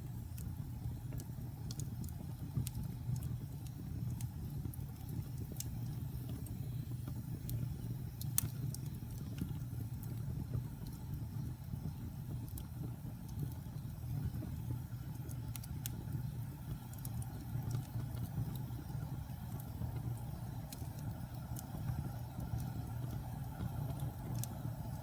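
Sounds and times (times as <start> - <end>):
wood fire crackling in fireplace: 0.0 - 25.0.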